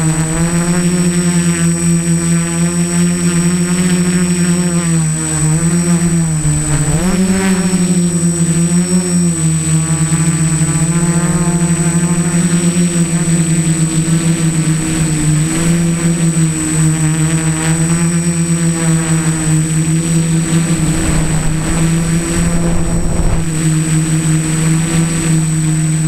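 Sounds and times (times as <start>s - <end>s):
drone motors and propellers buzzing: 0.0s - 26.0s
thin high whine: 3.6s - 26.0s.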